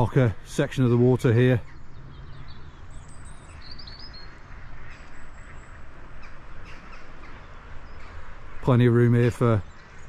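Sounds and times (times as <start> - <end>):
birds chirping faintly: 0.0 - 10.0
steady outdoor rush: 0.0 - 10.0.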